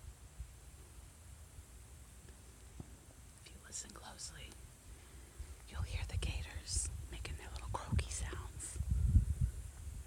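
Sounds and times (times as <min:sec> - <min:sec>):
steady faint hiss: 0:00.0 - 0:10.0.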